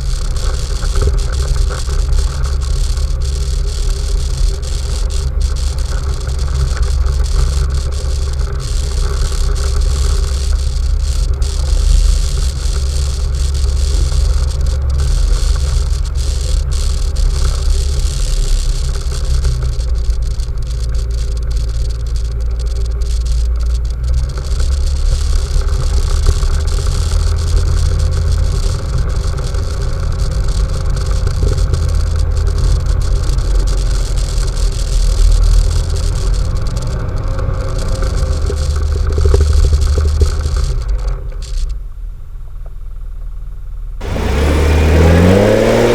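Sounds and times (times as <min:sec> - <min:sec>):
atv engine rumbling: 0:00.0 - 0:41.5, 0:44.0 - 0:45.9.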